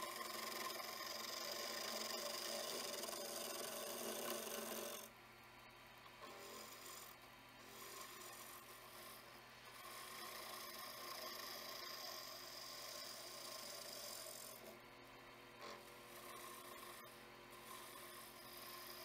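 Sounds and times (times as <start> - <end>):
chisel shearing wood on lathe: 0.0 - 5.1, 6.2 - 14.8, 15.6 - 19.0.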